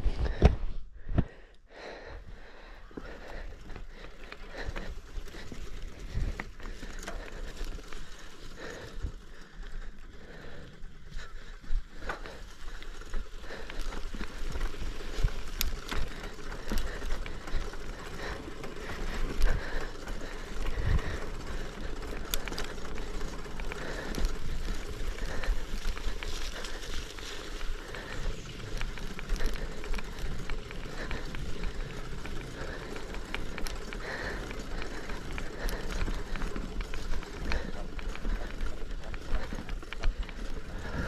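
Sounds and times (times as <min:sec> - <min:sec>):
bike tyres rumbling on dirt: 0:00.0 - 0:41.0
bike rattling over bumps: 0:02.2 - 0:41.0.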